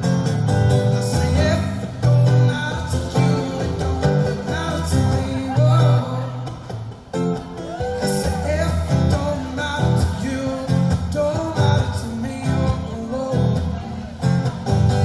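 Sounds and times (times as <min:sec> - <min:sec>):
solo guitar playing: 0:00.0 - 0:15.0.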